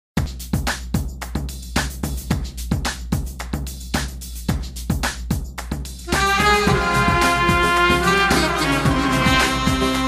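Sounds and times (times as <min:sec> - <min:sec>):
heavy thumping beat: 0:00.2 - 0:10.0.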